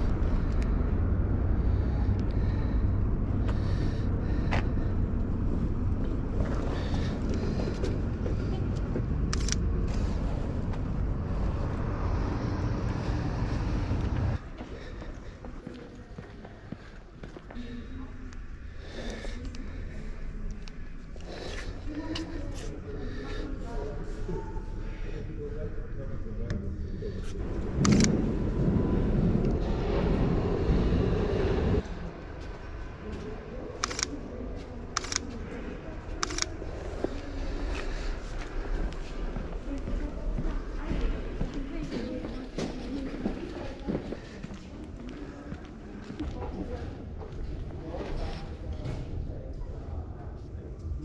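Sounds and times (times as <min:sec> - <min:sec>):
loud low outdoor rumble: 0:00.0 - 0:51.0
street ambience: 0:00.0 - 0:51.0.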